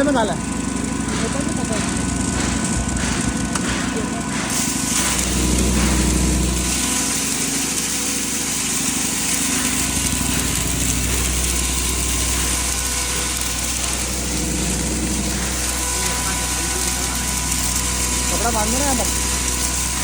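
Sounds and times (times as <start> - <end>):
feed grinder running: 0.0 - 20.0.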